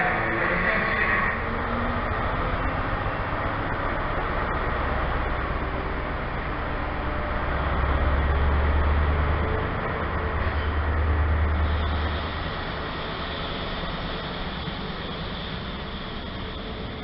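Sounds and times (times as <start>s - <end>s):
train diesel engines rumbling: 0.0s - 17.0s.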